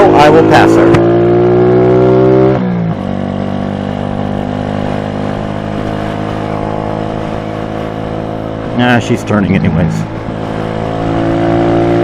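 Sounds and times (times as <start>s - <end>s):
pit bike engine revving: 0.0s - 9.3s, 10.0s - 12.0s.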